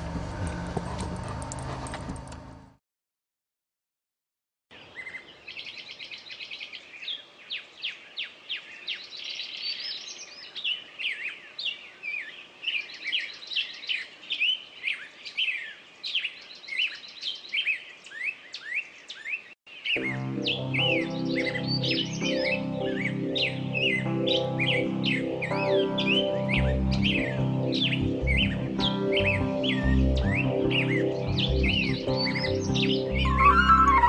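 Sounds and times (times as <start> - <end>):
songbirds chirping and trilling: 4.7 - 34.0.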